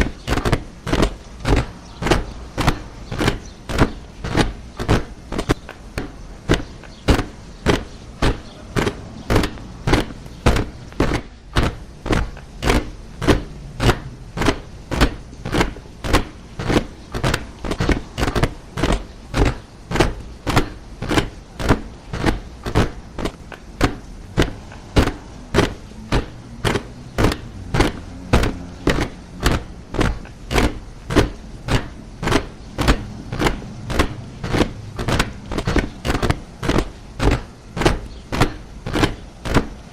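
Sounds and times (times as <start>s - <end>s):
soldiers' boots marching in step: 0.0s - 39.9s.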